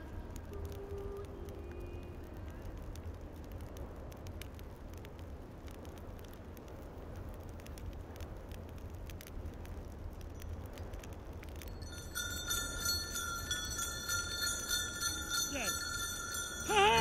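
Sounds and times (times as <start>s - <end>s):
bonfire crackling and popping: 0.0s - 17.0s
steady low rumble: 0.0s - 17.0s.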